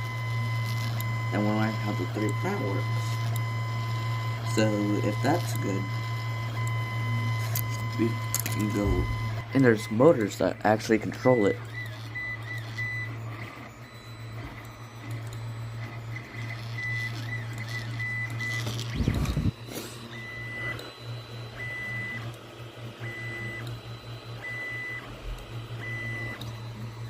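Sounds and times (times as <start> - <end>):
stepper motors whining: 0.0 - 27.0
fan hum: 3.4 - 13.4, 14.1 - 27.0.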